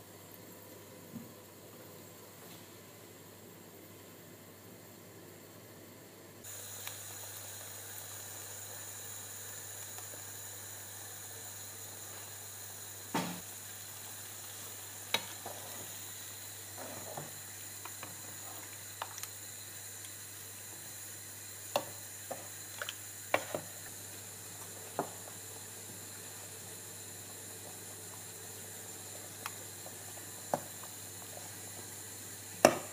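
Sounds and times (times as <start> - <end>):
curry simmering with faint sizzle: 6.4 - 32.9.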